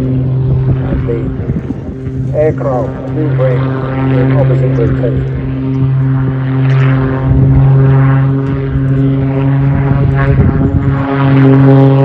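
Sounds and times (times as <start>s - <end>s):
propeller aircraft engine buzzing: 0.0s - 12.0s.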